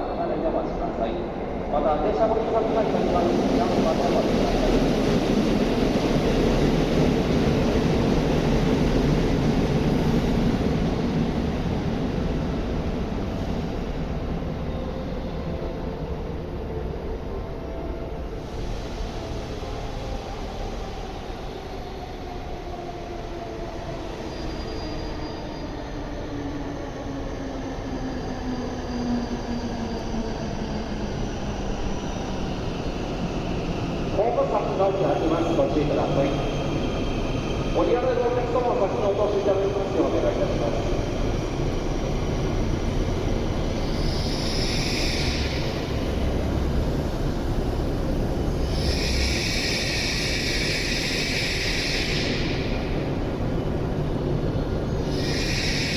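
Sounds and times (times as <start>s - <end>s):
low rumble of standing train: 0.0s - 55.9s.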